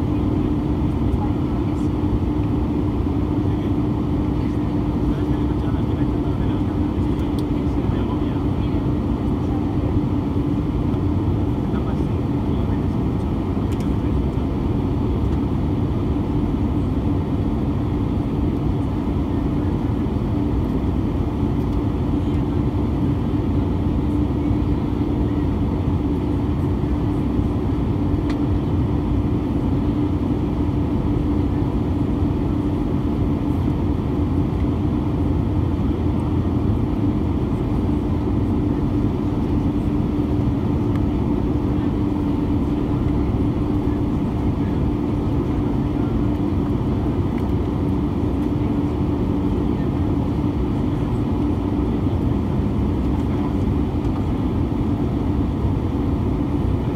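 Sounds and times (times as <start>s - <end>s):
jet engine and airflow rush: 0.0s - 56.9s
low cabin hum: 0.0s - 56.9s.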